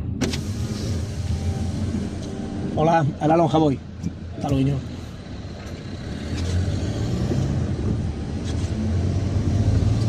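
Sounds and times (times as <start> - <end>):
car engine from inside cabin: 0.0 - 10.0.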